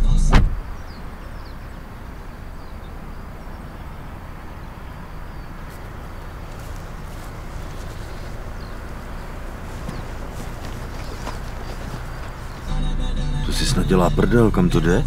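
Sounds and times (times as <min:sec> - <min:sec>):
faint bird chirps: 0:00.0 - 0:12.7
low rushing background: 0:00.0 - 0:14.7.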